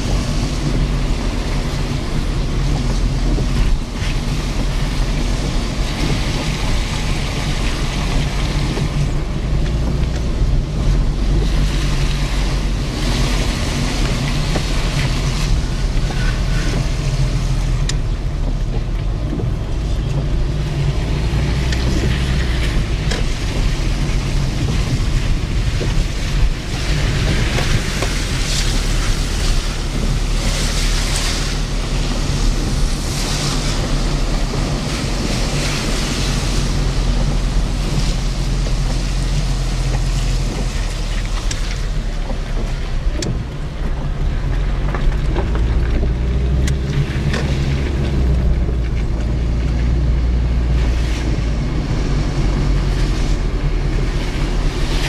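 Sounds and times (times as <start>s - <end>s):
car engine rumble: 0.0s - 55.0s
tyres hissing on wet pavement: 0.0s - 55.0s.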